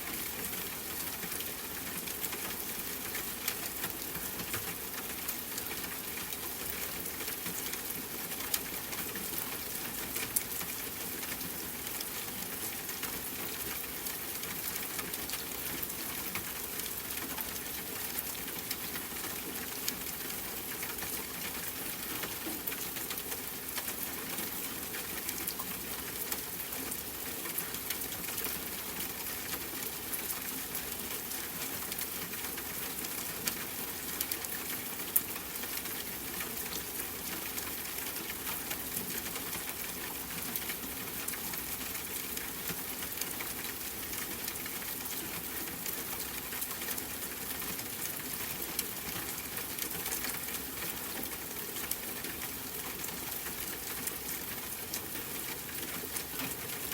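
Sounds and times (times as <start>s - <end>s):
steady rain pattering: 0.0s - 56.9s.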